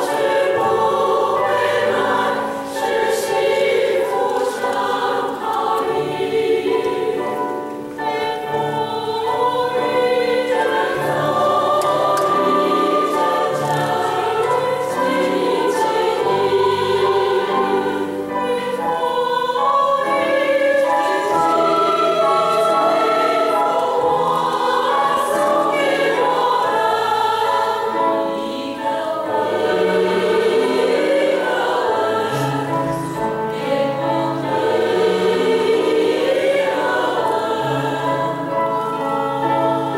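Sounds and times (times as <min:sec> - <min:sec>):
women's choir singing: 0:00.0 - 0:39.9.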